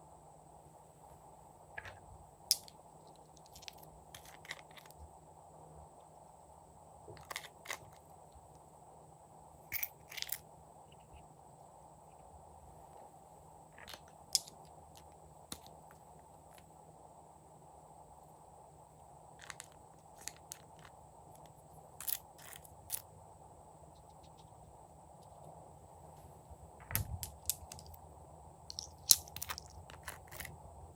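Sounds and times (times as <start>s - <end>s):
steady low hiss: 0.0s - 30.9s.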